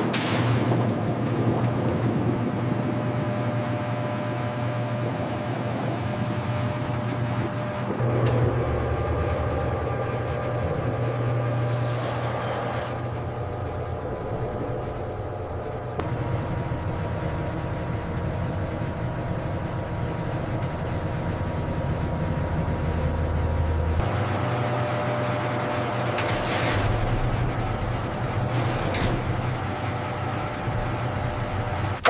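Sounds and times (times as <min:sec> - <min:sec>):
industrial machinery humming: 0:00.0 - 0:32.0.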